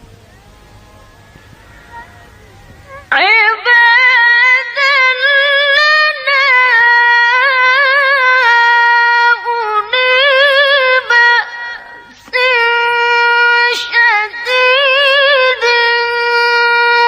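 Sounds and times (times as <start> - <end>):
woman reciting melodically: 1.8 - 17.0.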